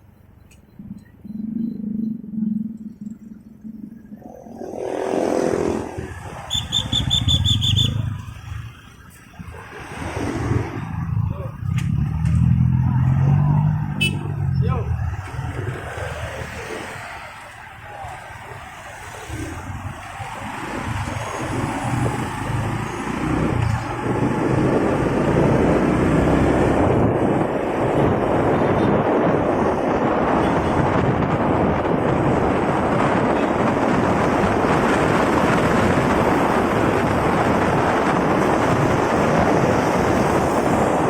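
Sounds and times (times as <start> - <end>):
wind rushing over microphone: 0.8 - 41.0.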